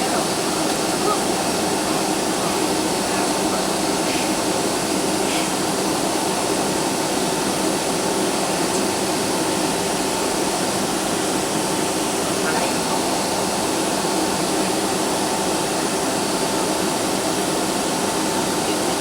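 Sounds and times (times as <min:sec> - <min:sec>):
jet engine cabin noise: 0:00.0 - 0:19.0.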